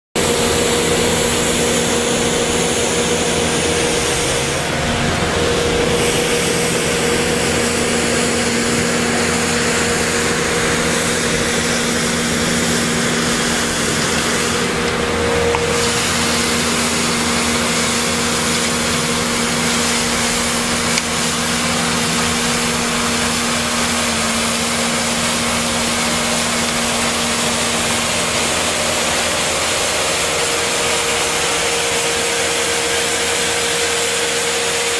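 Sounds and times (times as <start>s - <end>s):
diesel engine running: 0.2s - 34.9s
sweeper broom brushing gravel: 0.2s - 34.9s.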